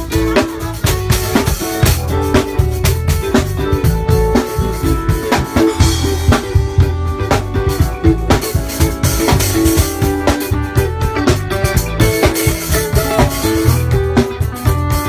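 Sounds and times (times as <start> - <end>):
drum kit beat: 0.0 - 15.0
electric bass guitar line: 0.0 - 15.0
live band music: 0.0 - 15.0.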